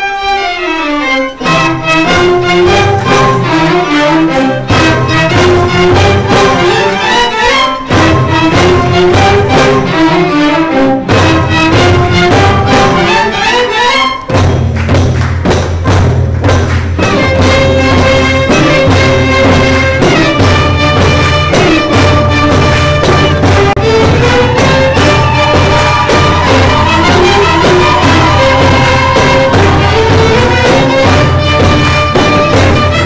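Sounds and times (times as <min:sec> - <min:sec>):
violins playing melody: 0:00.0 - 0:14.4, 0:16.9 - 0:33.0
frame drums beat: 0:01.4 - 0:13.6, 0:14.2 - 0:33.0.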